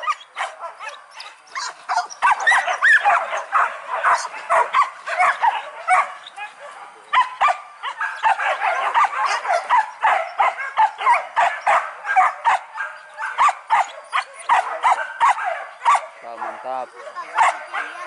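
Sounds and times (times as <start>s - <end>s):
dogs barking and yelping: 0.0s - 18.0s.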